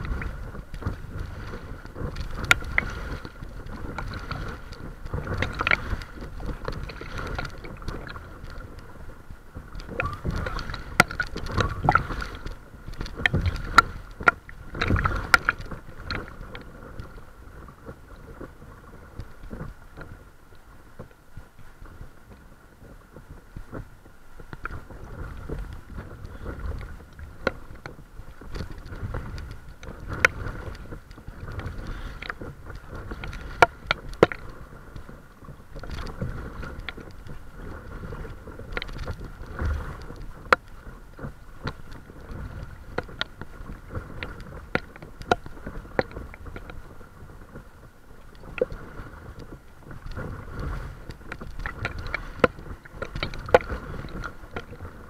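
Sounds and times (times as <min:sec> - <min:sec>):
water slapping against hull: 0:00.0 - 0:20.3, 0:21.8 - 0:55.0.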